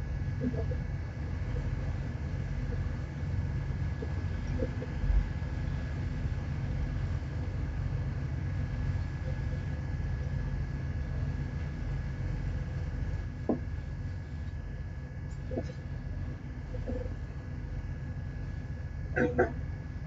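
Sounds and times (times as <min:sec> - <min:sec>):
faint constant whine: 0:00.0 - 0:20.0
ship engine droning: 0:00.0 - 0:20.0.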